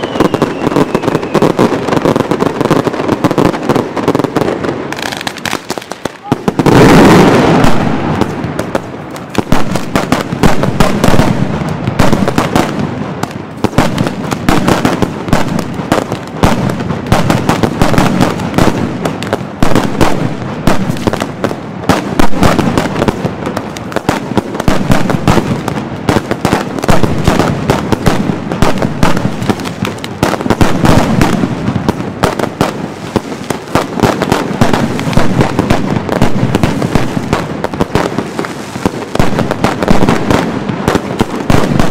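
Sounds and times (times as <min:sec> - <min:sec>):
rapid firecracker barrage: 0:00.0 - 0:41.9.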